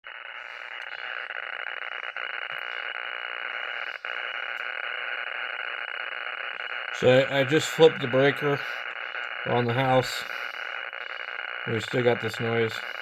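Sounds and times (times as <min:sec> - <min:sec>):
raspy radio interference noise: 0:00.0 - 0:13.0.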